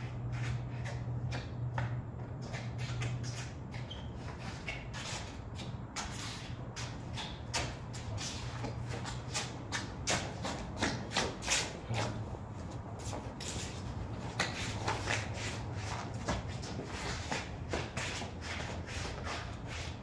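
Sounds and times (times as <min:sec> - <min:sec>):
shoes scuffing on paving tiles: 0:00.0 - 0:20.0
steady low hum: 0:00.0 - 0:20.0.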